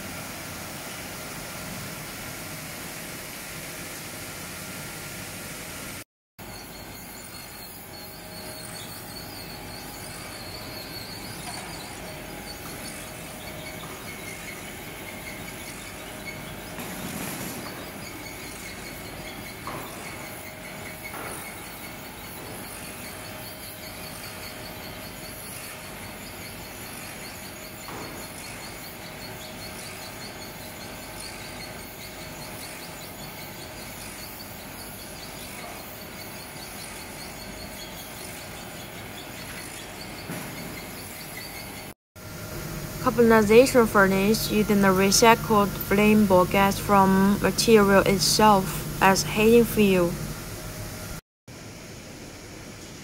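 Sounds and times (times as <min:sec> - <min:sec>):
briquette machine running: 0:06.4 - 0:51.2.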